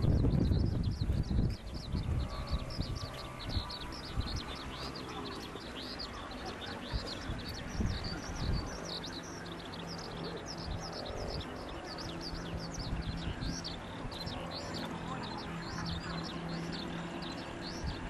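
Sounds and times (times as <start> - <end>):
propeller aircraft engine drone: 0.0 - 18.0
small birds chirping: 0.0 - 18.0.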